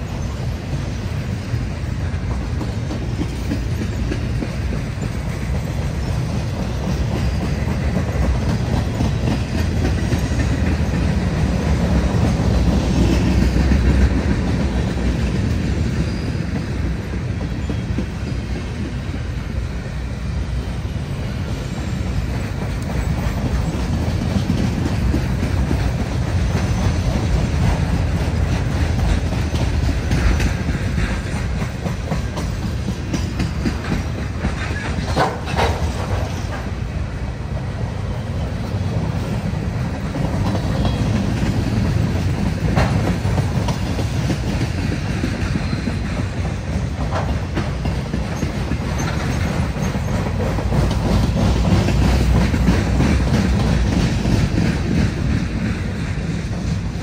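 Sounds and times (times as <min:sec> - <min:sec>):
train cars rumbling past: 0:00.0 - 0:57.0
wheels clacking over rail joints: 0:00.0 - 0:57.0.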